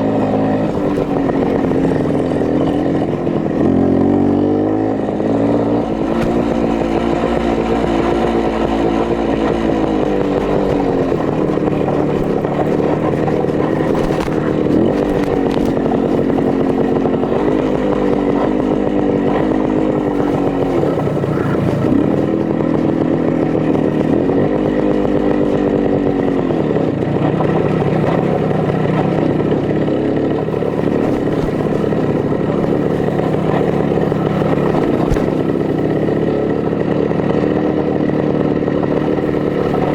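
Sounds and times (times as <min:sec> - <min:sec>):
two-stroke motorcycle engine buzzing: 0:00.0 - 0:39.9.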